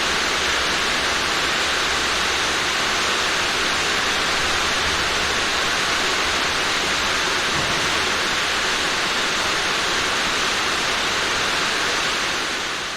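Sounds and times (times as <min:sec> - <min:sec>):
heavy rain falling: 0:00.0 - 0:12.9.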